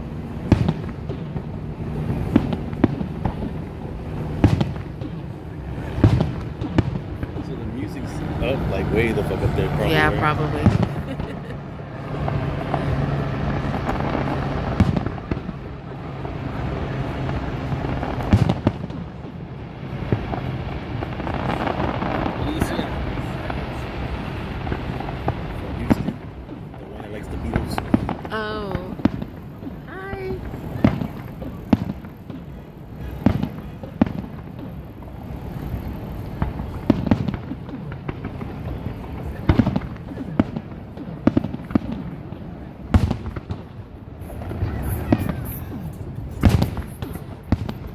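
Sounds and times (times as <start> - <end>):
background rumble and hum: 0.0 - 47.9
fireworks bangs: 0.0 - 47.9.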